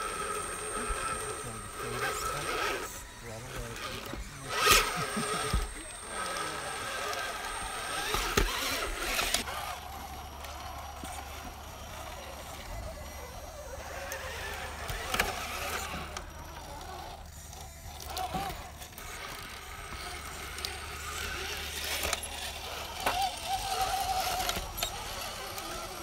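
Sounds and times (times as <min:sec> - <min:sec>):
electric motors whirring: 0:00.0 - 0:26.0.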